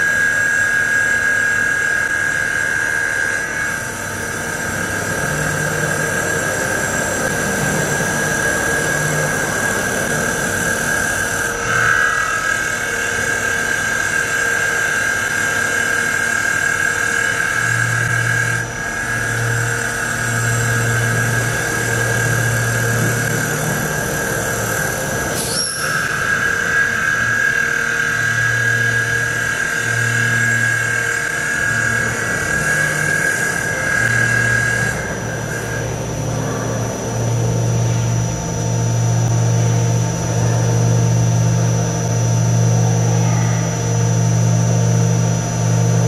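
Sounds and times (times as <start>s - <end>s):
tool shearing wood: 0.0s - 37.0s
wood lathe whining: 0.0s - 39.3s.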